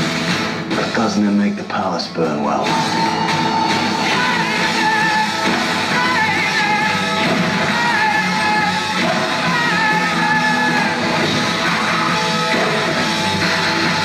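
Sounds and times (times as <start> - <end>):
rock music through a speaker: 0.0 - 14.0.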